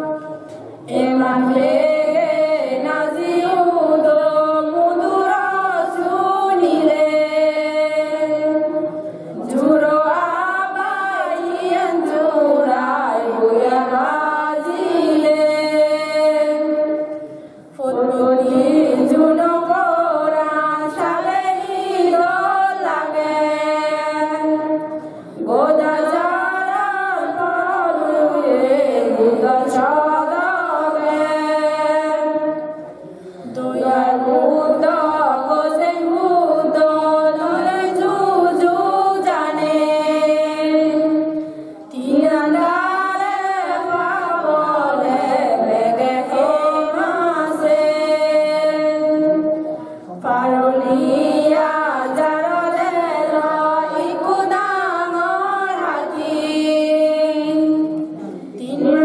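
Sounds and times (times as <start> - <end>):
person chanting a melody: 0.0 - 59.0.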